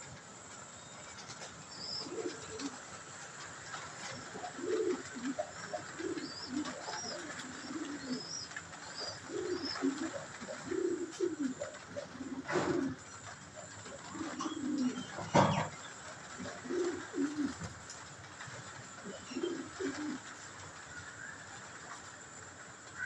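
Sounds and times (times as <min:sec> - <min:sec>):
pigeons cooing: 0:01.2 - 0:22.1.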